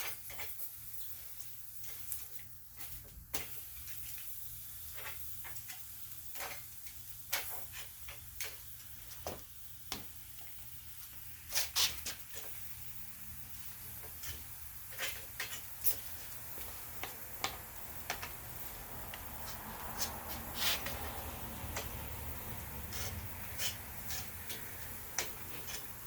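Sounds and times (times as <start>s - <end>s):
clicks and taps at grill: 0.0s - 12.8s, 13.7s - 26.0s.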